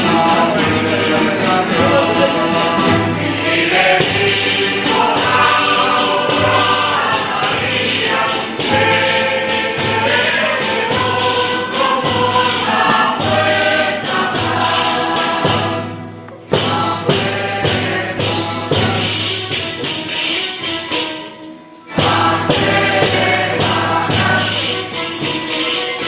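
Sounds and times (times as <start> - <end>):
choir singing religious song: 0.0 - 20.4, 21.9 - 26.0
rhythmic percussion: 0.0 - 26.0.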